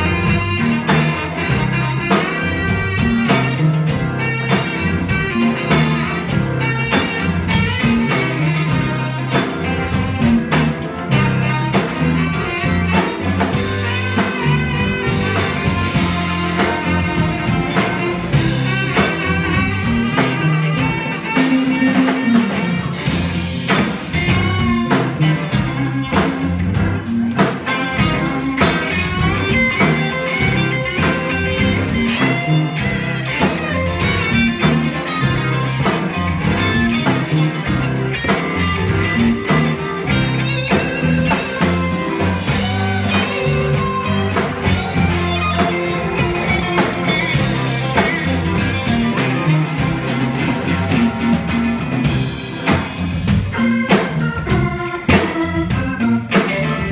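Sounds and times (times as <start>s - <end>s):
bass: 0.0s - 56.9s
drums: 0.0s - 56.9s
electric guitar: 0.0s - 56.9s
saxophone: 0.0s - 56.9s.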